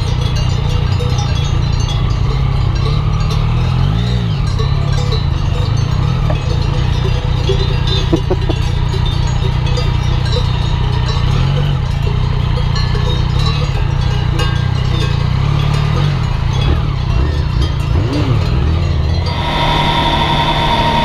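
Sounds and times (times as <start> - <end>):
cowbells ringing: 0.0 - 21.0
motorcycle engine running: 0.0 - 21.0.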